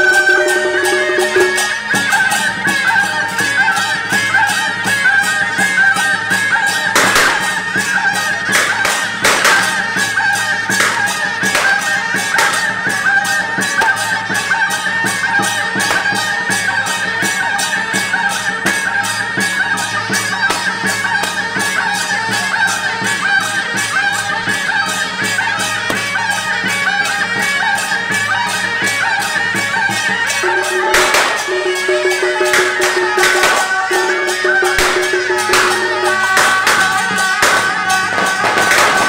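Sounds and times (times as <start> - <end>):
percussion beat: 0.0 - 39.0.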